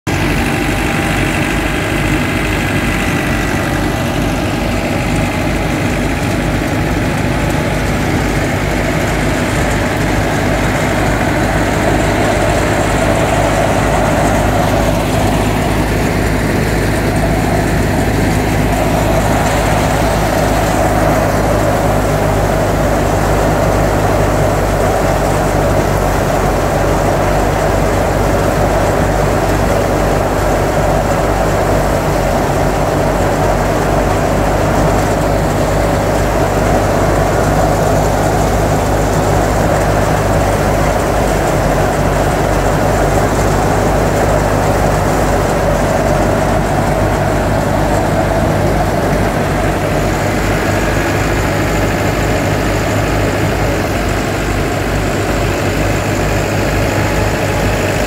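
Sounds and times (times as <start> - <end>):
thresher drum and fan running: 0.0 - 58.0
tractor diesel engine running: 0.0 - 58.0.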